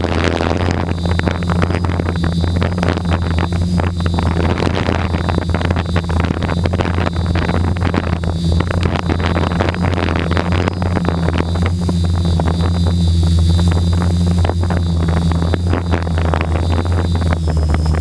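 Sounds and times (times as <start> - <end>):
drone propellers humming: 0.0 - 18.0
wind buffeting microphone: 0.0 - 18.0.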